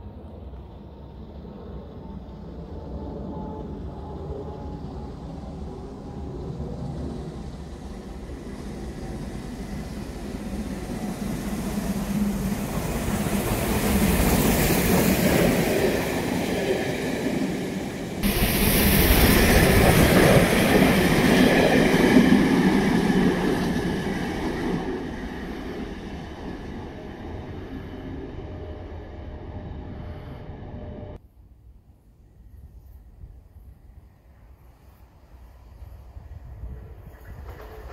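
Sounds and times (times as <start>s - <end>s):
steam train passing: 0.0s - 31.2s, 32.2s - 37.9s.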